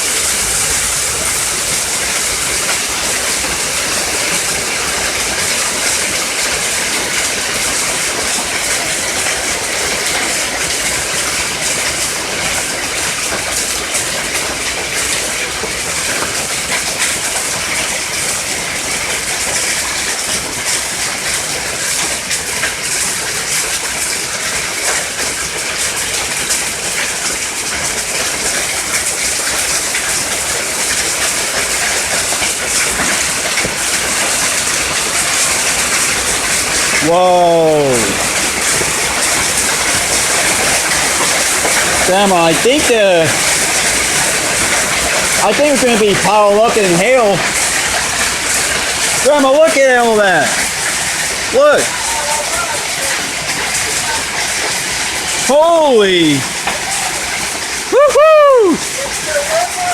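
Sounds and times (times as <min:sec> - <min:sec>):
hailstones pelting down: 0:00.0 - 0:59.9.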